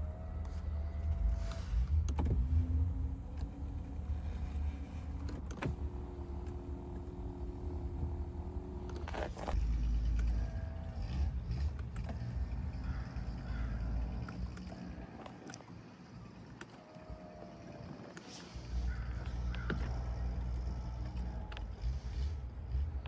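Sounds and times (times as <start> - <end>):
car engine idling: 0.0 - 23.0
electric motor whine: 0.0 - 23.0
clicks: 0.1 - 23.0.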